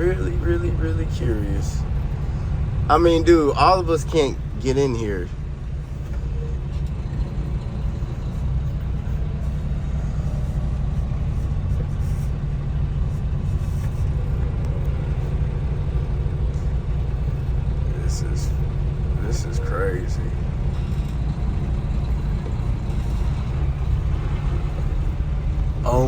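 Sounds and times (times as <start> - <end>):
road noise: 0.0 - 26.0
truck engine rumble: 0.0 - 26.0.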